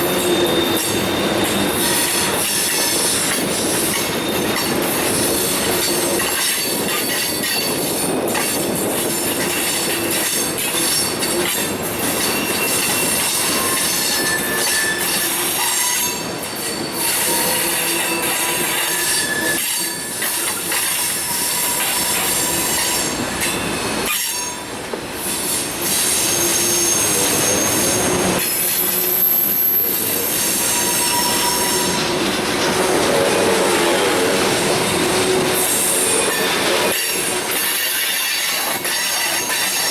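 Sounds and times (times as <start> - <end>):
rail cars rolling: 0.0 - 39.9
track clatter: 0.0 - 39.9
train wheels squealing: 0.0 - 39.9.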